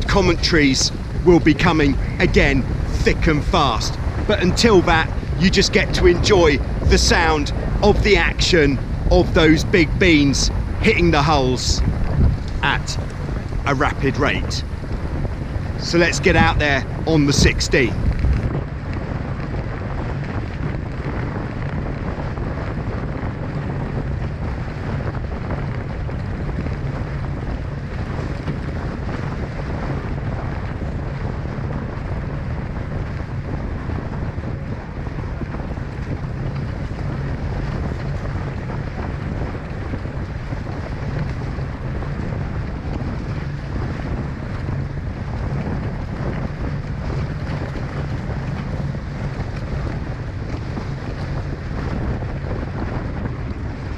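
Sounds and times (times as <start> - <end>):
water rushing along hulls: 0.0 - 53.9
wind buffeting microphone: 0.0 - 53.9.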